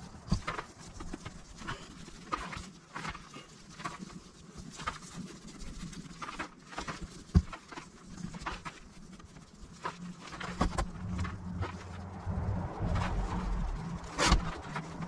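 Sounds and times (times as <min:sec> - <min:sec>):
hands rustling insulating blanket: 0:00.0 - 0:15.0.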